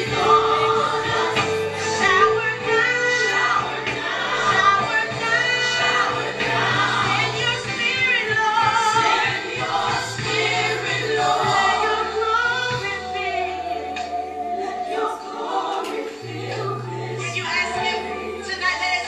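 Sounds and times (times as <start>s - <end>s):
choir singing gospel song: 0.0s - 19.0s.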